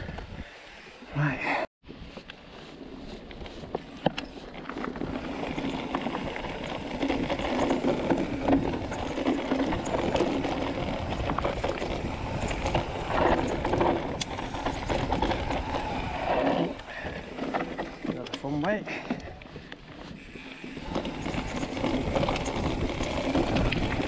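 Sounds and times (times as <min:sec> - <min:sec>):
bike tyres crunching over stones: 0:01.9 - 0:24.0
bike rattling over bumps: 0:02.6 - 0:24.0.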